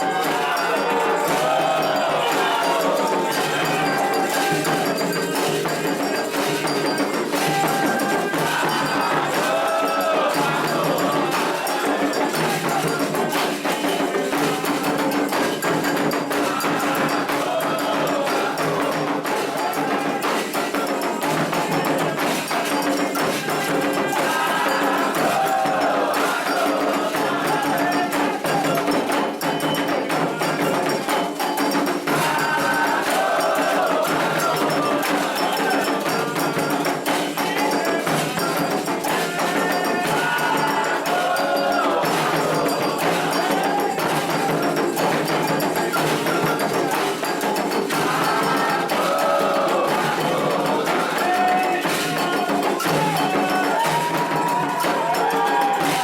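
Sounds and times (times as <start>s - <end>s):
hand drums beating fast rhythm: 0.0s - 56.0s
struck bell: 0.0s - 56.0s
voices singing a chant: 0.0s - 56.0s.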